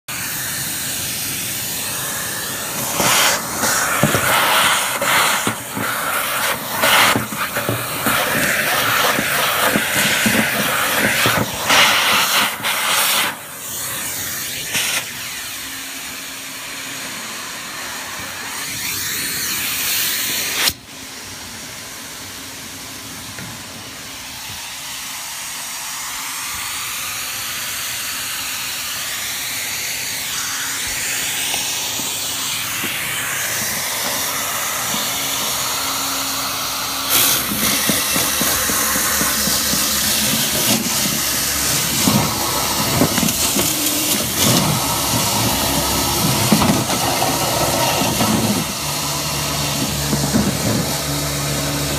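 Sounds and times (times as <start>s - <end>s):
vacuum hose rushing air: 0.1s - 51.9s.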